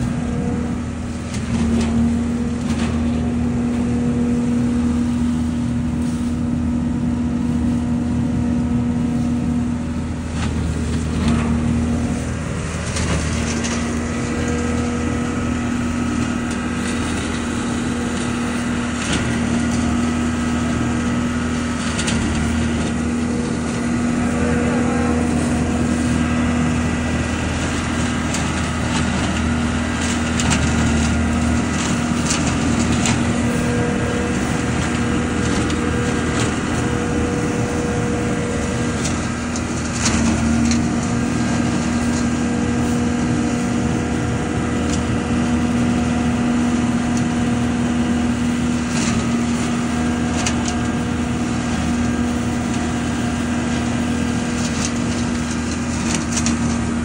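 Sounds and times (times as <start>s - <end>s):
leaf vacuum running: 0.0s - 57.0s
leaves and twigs striking impeller: 10.3s - 57.0s.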